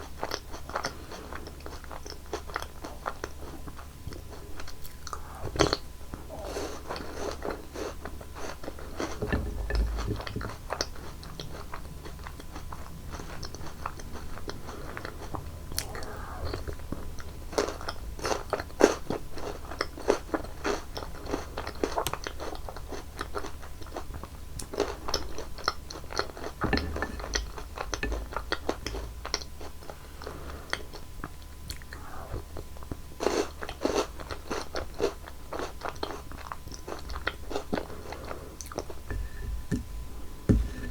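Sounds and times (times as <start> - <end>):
chewing sounds: 0.0 - 39.1.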